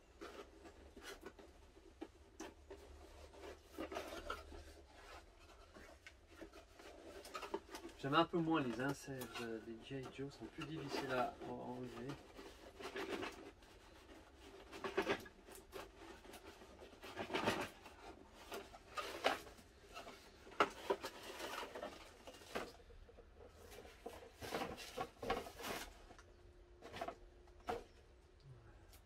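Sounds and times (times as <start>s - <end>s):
cardboard scraping and rustling: 0.0s - 28.0s.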